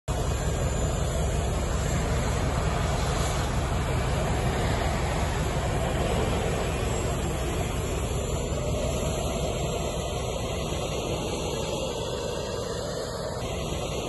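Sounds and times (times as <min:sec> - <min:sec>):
heavy vehicle engines rumbling: 0:00.0 - 0:14.0.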